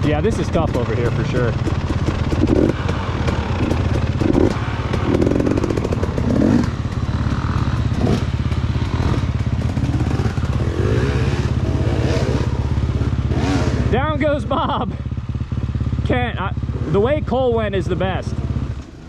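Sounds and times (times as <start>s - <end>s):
dirt bike engine idling: 0.0s - 19.0s
dirt bike revving: 0.0s - 19.0s.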